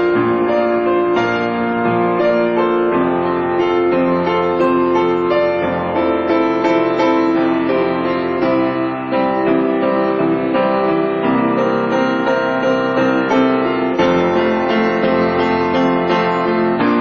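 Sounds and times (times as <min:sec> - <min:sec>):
piano music with sustained chords: 0:00.0 - 0:17.0.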